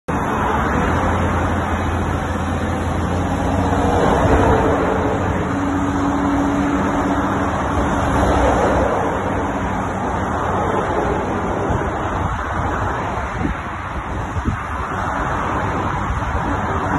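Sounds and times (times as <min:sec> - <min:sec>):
motorway traffic rushing: 0:00.0 - 0:16.9
excavator diesel engine running: 0:00.1 - 0:16.9.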